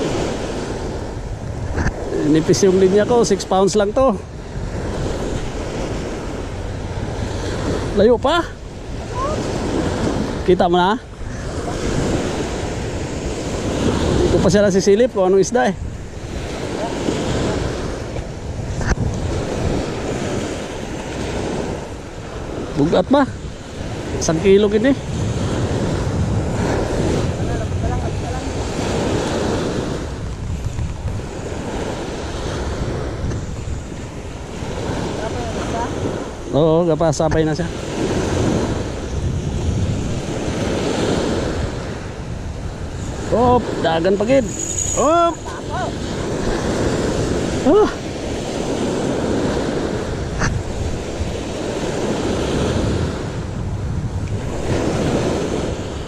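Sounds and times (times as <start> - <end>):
small waves breaking on beach: 0.0 - 56.0
wind buffeting microphone: 0.0 - 56.0.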